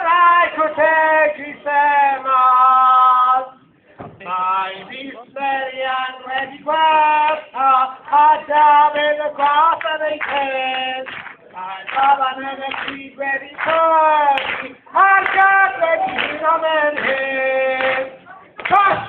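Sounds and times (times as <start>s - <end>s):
person singing unaccompanied: 0.0s - 19.0s.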